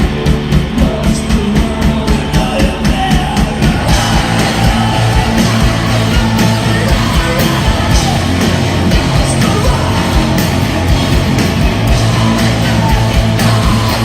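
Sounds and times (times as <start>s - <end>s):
distorted guitars: 0.0s - 14.0s
pounding drums: 0.0s - 14.0s
yelled vocals: 0.6s - 14.0s.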